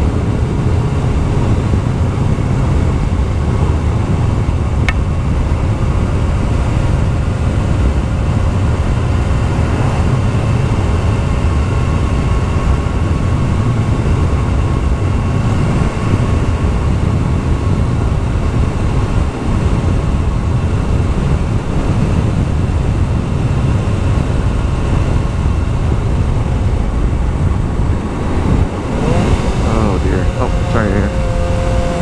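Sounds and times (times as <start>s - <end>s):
motorcycle engine running: 0.0s - 32.0s
wind rush on microphone: 0.0s - 32.0s.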